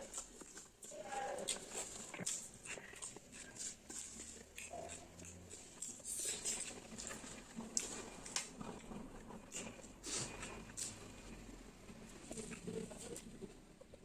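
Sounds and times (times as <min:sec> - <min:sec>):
person chewing and smacking: 0:00.0 - 0:11.2, 0:12.3 - 0:13.4.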